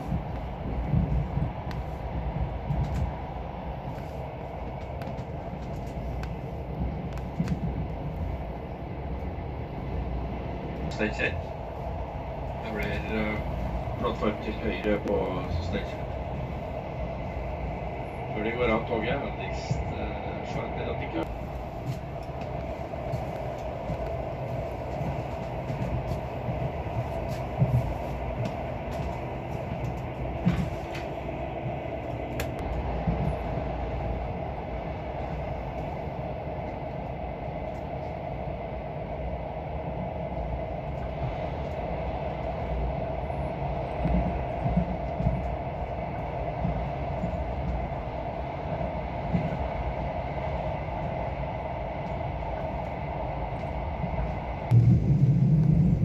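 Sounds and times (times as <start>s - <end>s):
passenger train rumbling: 0.0s - 56.0s.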